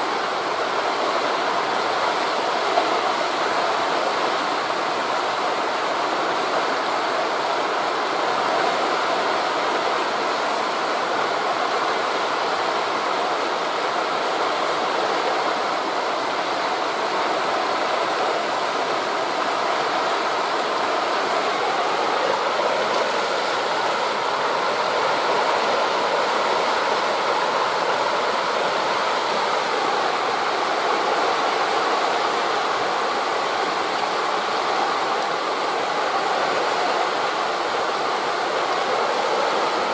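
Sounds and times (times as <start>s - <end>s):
sea surf: 0.0s - 39.9s
wind through leaves: 0.0s - 39.9s.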